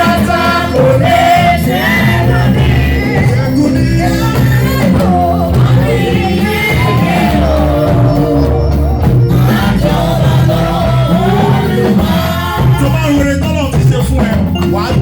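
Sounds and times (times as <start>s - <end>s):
congregation shouting: 0.0s - 13.1s
gospel band playing: 0.0s - 15.0s
people singing: 0.0s - 15.0s.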